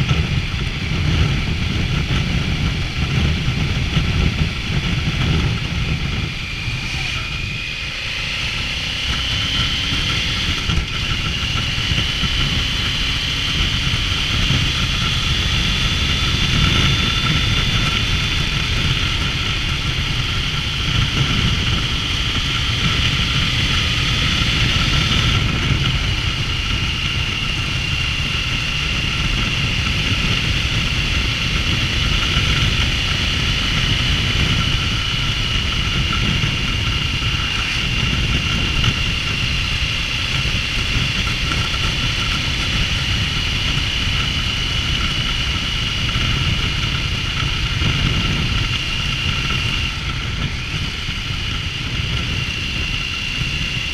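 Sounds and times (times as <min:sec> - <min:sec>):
motorcycle engine running: 0:00.0 - 0:53.9
road and wind rumble: 0:00.0 - 0:53.9
thin high whine: 0:00.0 - 0:53.9.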